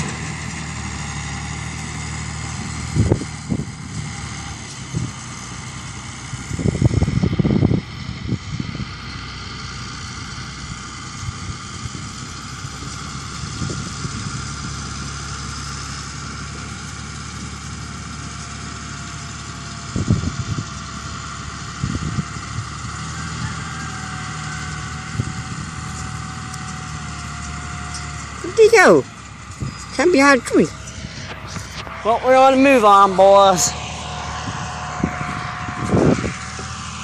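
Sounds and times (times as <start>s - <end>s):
tractor engine and baler humming: 0.0s - 37.0s.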